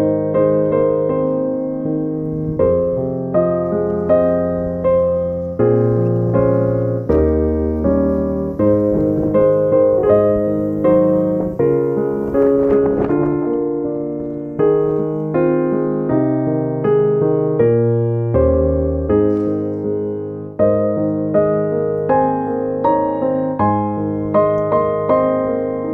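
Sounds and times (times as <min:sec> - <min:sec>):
slow gentle piano piece: 0:00.0 - 0:25.9.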